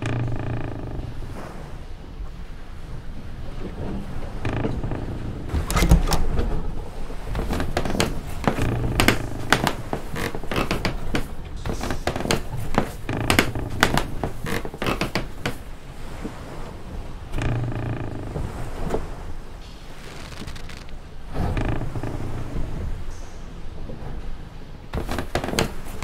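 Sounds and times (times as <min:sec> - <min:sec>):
wooden ship timbers creaking: 0:00.0 - 0:02.6, 0:03.2 - 0:26.0
steady low rumble: 0:00.0 - 0:26.0.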